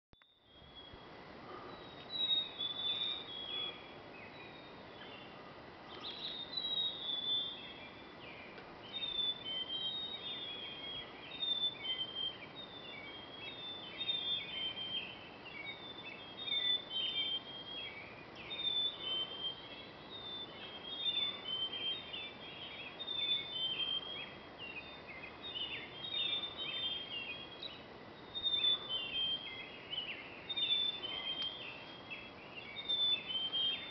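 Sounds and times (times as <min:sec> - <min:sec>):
birds singing: 0:00.2 - 0:33.9
low background hiss: 0:00.2 - 0:33.9.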